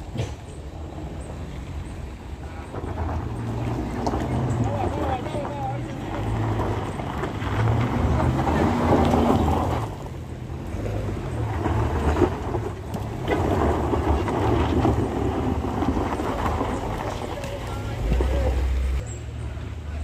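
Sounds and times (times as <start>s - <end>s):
people's voices: 0.0s - 20.0s
vehicle engine throbbing: 0.0s - 20.0s.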